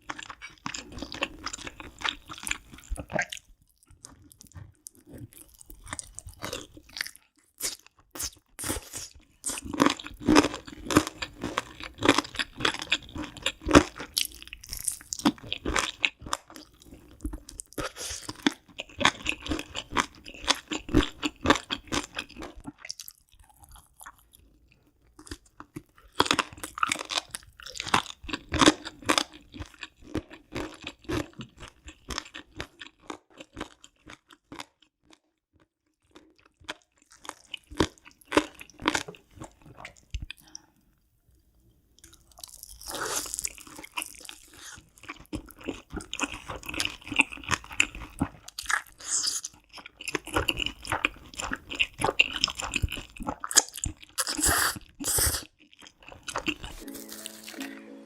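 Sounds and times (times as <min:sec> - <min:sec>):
chewing and crunching crisp food: 0:00.0 - 0:58.0.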